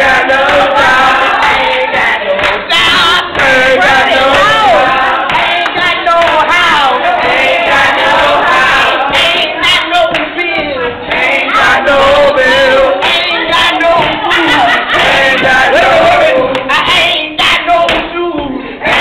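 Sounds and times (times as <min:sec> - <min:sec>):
group singing and calling out: 0:00.0 - 0:19.0.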